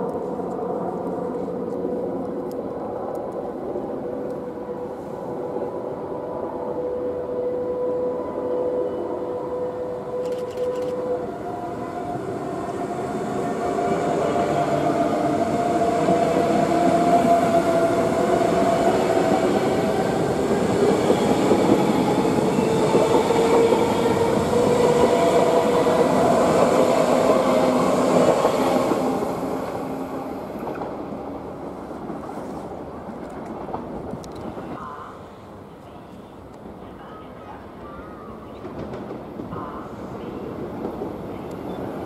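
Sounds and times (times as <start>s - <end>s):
electric train rumbling past: 0.0s - 42.0s
steady train whine: 0.0s - 42.0s.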